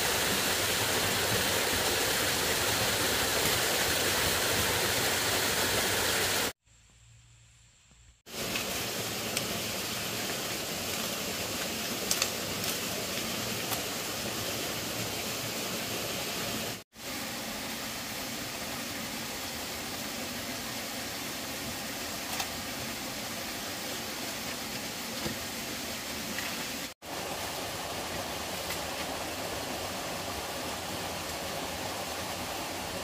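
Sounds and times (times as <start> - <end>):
steady rushing hiss: 0.0 - 33.0.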